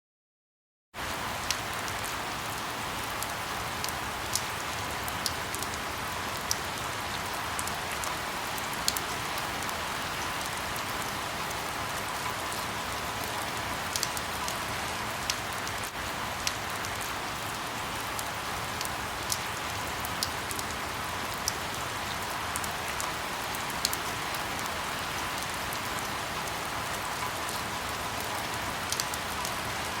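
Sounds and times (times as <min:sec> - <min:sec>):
steady rain hiss: 0:01.0 - 0:30.0.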